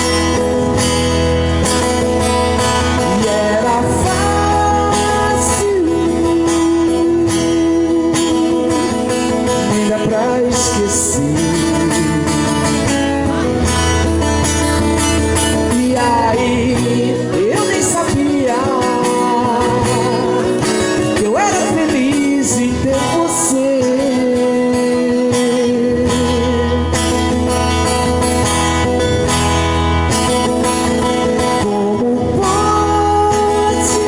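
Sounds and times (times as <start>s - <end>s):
acoustic guitar accompaniment: 0.0s - 34.0s
man singing: 1.6s - 28.5s, 30.7s - 34.0s.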